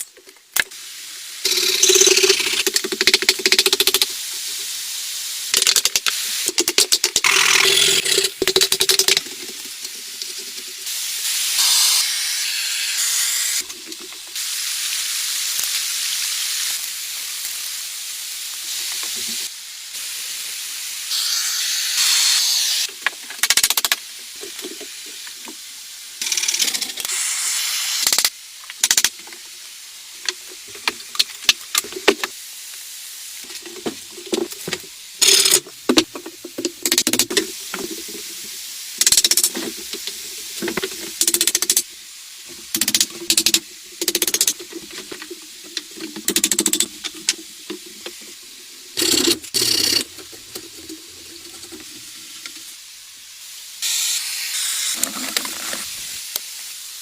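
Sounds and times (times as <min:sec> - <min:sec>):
hissing noise: 0:00.0 - 0:57.0.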